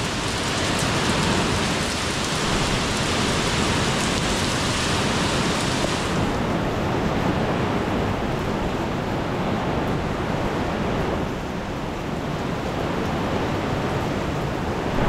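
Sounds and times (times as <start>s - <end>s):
rain on paving: 0.0s - 15.0s.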